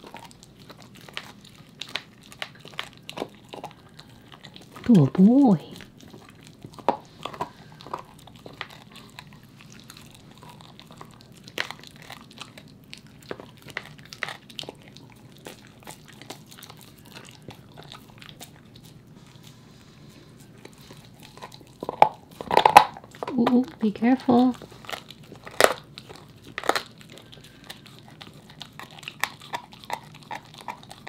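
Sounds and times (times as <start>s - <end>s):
dog chewing on bone: 0.0s - 31.0s.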